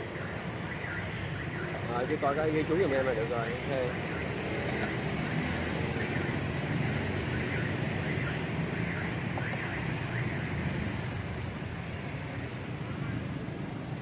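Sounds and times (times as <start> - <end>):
motorbikes and cars passing: 0.0 - 14.0
street traffic hum: 0.0 - 14.0.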